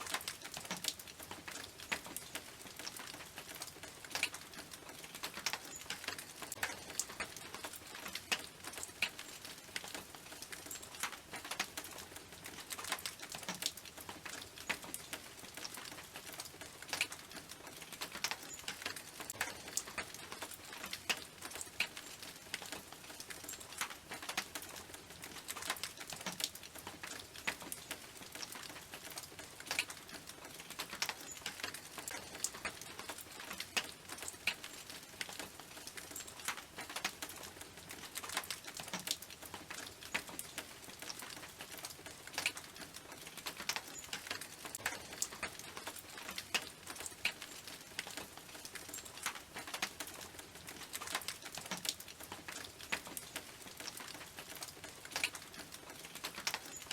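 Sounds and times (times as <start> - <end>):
rain on a tin roof: 0.0 - 56.9.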